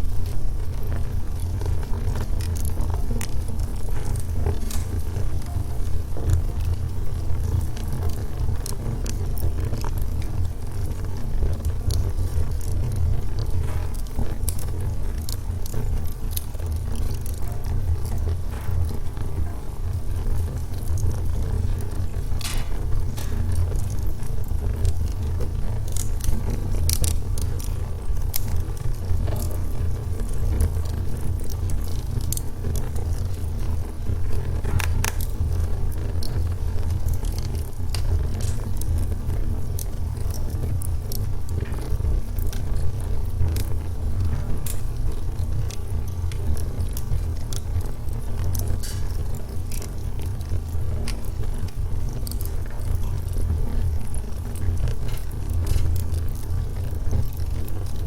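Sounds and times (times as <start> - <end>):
low noise of flames: 0.0 - 58.0
wood crackling and popping: 0.0 - 58.0.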